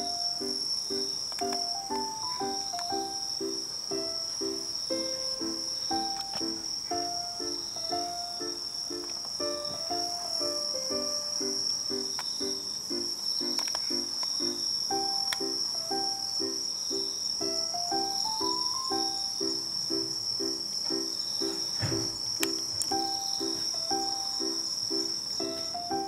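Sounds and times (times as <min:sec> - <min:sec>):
crickets chirring: 0:00.0 - 0:26.0
light plucked background music: 0:00.0 - 0:26.0.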